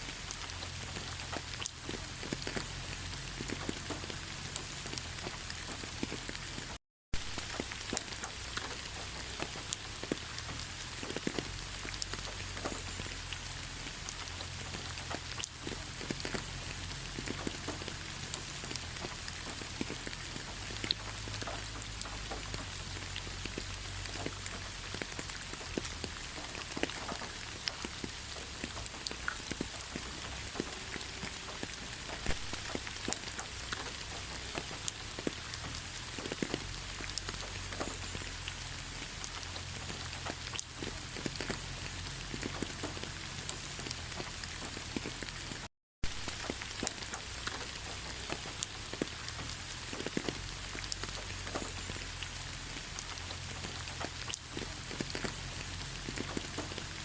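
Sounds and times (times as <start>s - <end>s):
gentle rain falling: 0.0s - 57.0s.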